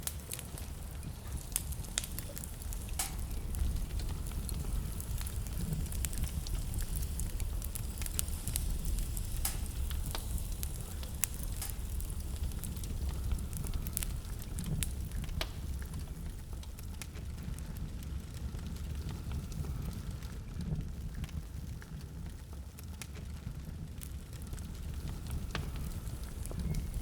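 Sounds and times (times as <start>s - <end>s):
low rumble of blizzard wind: 0.0s - 27.0s
wood fire crackling and popping: 0.0s - 27.0s.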